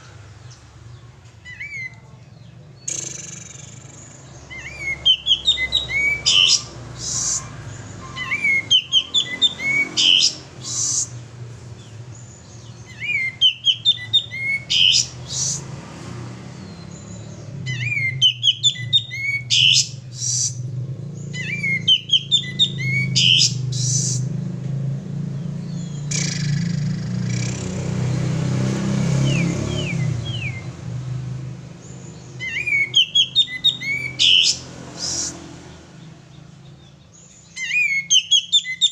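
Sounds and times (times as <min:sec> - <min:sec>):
bird singing whistled notes: 0:01.4 - 0:11.2, 0:11.8 - 0:15.6, 0:16.6 - 0:24.4, 0:25.4 - 0:28.2, 0:29.2 - 0:30.8, 0:31.8 - 0:35.4, 0:36.6 - 0:38.9.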